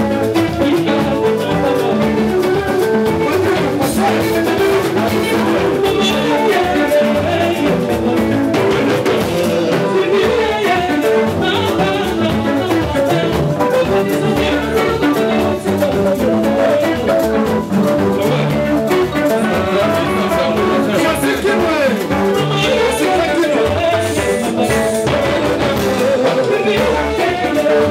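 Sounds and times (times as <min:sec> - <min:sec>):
drum kit beat: 0:00.0 - 0:27.9
electric guitars: 0:00.0 - 0:27.9.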